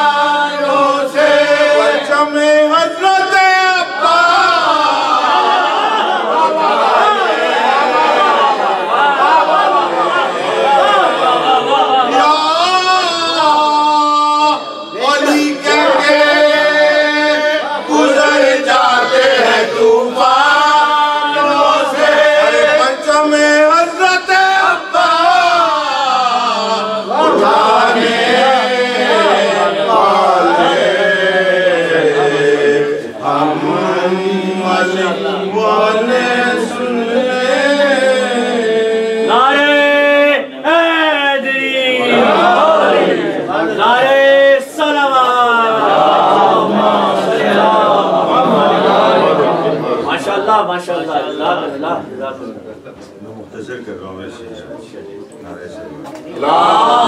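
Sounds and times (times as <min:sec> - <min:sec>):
man chanting a lament: 0:00.0 - 0:05.7, 0:10.4 - 0:52.4.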